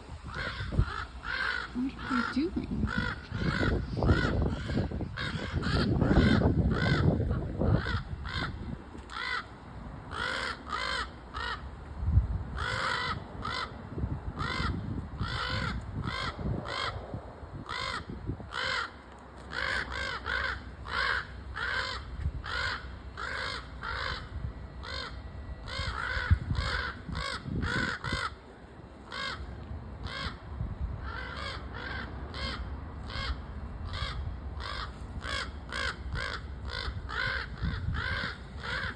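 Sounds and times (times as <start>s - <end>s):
crows cawing: 0.2s - 11.8s, 12.5s - 13.8s, 14.4s - 17.0s, 17.6s - 38.9s.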